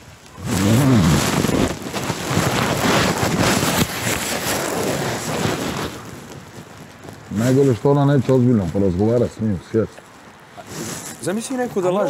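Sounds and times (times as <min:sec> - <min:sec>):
fabric rustling on microphone: 0:00.0 - 0:12.0.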